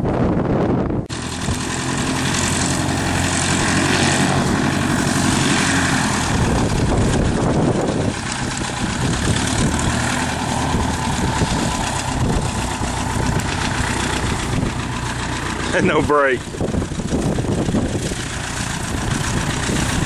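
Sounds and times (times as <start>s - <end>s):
airplane engine and propeller: 0.0s - 20.0s
wind noise on microphone: 0.0s - 20.0s.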